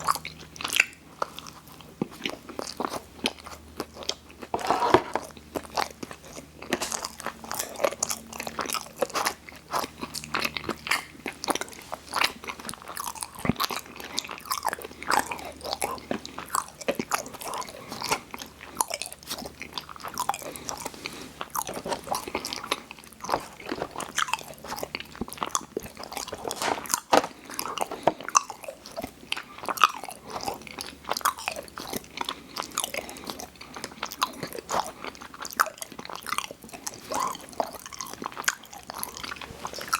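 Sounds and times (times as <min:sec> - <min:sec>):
chewing and crunching sweets: 0:00.0 - 0:39.9.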